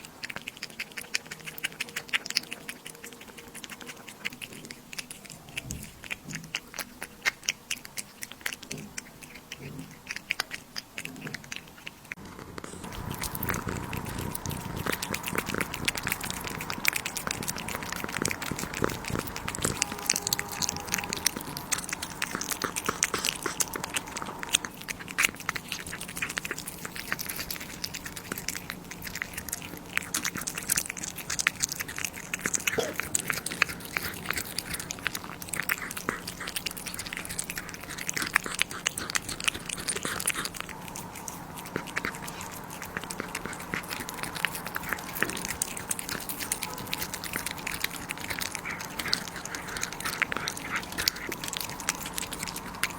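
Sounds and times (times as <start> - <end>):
pet crunching food: 0.0 - 52.9.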